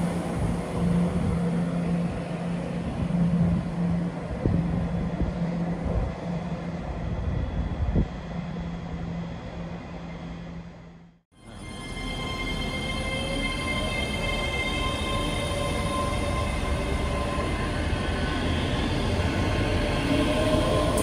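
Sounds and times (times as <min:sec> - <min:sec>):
diesel train engine drone: 0:00.0 - 0:21.0.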